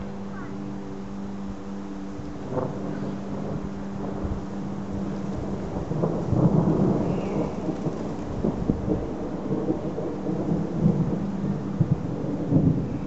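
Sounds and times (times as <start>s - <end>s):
thunder rumbling: 2.4s - 13.0s.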